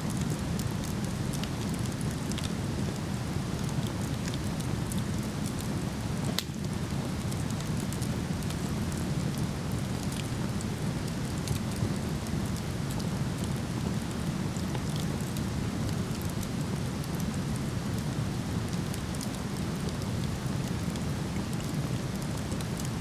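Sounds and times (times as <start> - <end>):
wood fire popping and crackling: 0.1 - 23.0.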